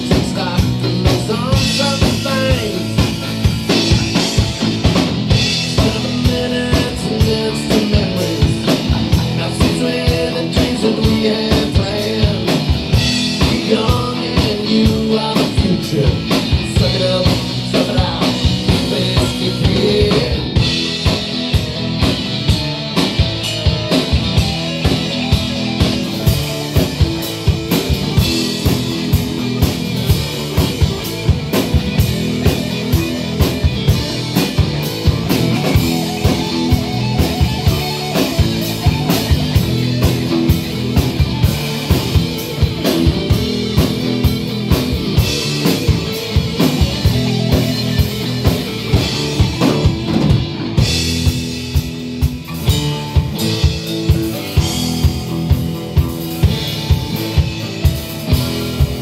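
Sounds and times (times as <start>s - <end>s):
bass guitar: 0.0s - 59.0s
drum kit beat: 0.0s - 59.0s
electric guitars: 0.0s - 59.0s.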